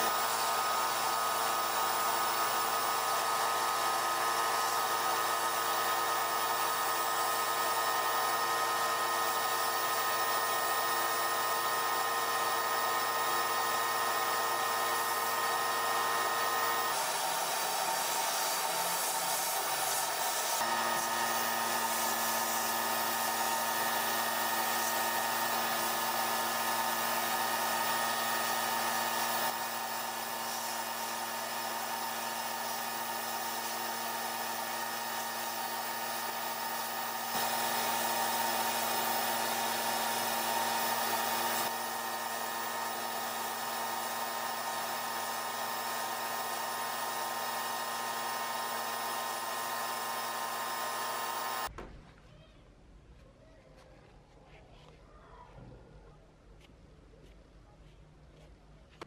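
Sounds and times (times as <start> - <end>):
sandblast gun hissing: 0.0 - 51.7.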